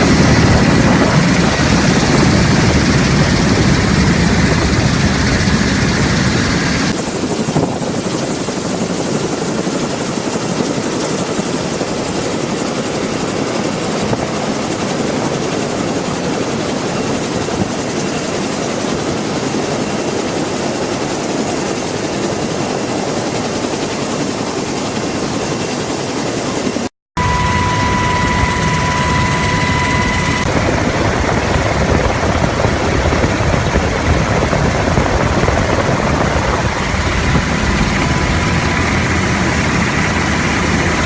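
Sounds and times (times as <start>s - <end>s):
helicopter rotor and turbine: 0.0s - 41.0s.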